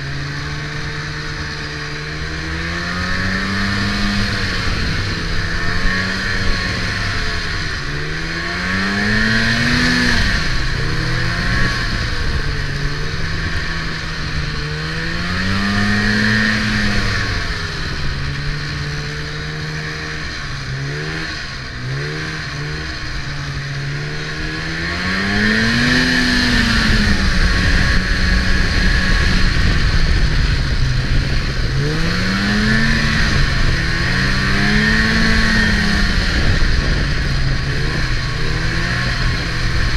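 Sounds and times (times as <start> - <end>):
snowmobile engine revving: 0.0 - 39.9
steady rushing noise: 0.0 - 39.9.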